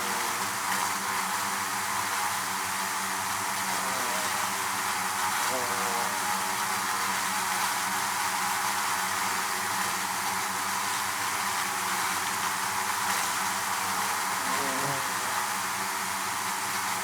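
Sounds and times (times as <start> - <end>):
bees buzzing: 0.0 - 10.6, 11.4 - 17.0.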